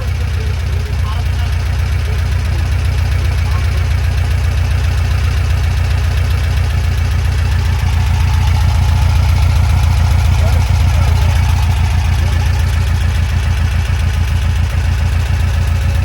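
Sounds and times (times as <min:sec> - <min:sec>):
engine idling with pulsing beat: 0:00.0 - 0:16.0.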